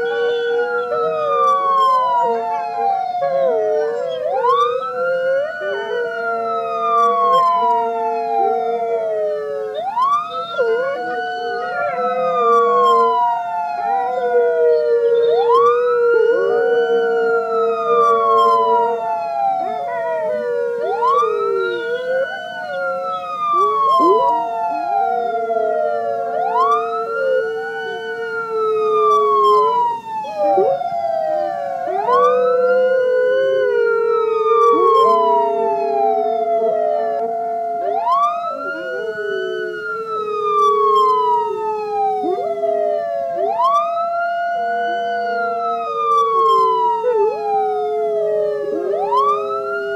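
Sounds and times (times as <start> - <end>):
dogs howling: 0.0 - 49.9
emergency siren wailing: 0.0 - 49.9.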